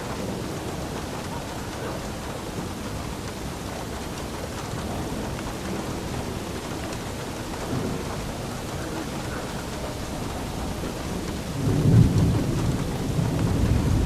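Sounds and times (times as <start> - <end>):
heavy rain: 0.0 - 14.0
low rumble of thunder: 0.0 - 14.0.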